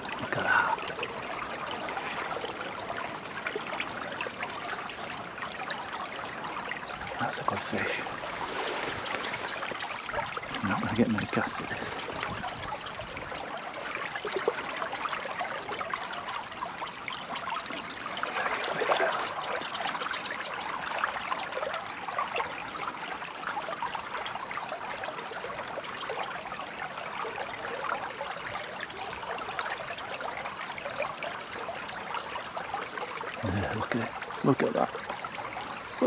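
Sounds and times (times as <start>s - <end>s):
stream trickling and babbling: 0.0s - 36.0s.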